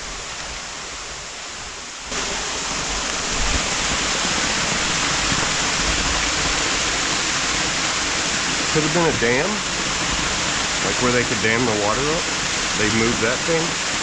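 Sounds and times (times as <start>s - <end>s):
rushing creek water: 0.0s - 14.0s.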